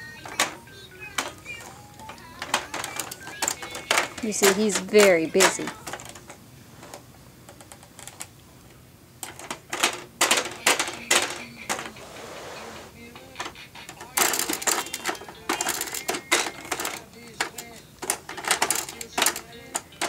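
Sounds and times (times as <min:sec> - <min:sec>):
plastic toy keys clacking: 0:00.0 - 0:06.4, 0:07.5 - 0:08.3, 0:09.2 - 0:11.9, 0:13.4 - 0:20.0
toy rattling: 0:00.0 - 0:06.4, 0:09.2 - 0:12.0, 0:13.0 - 0:20.0.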